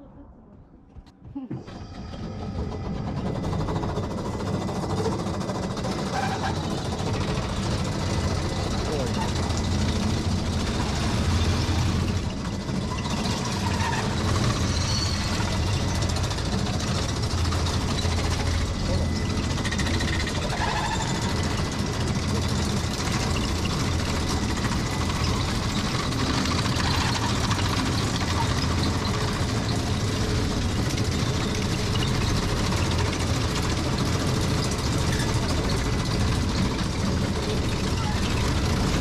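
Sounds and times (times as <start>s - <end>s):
monorail drive rumbling: 0.0s - 39.0s.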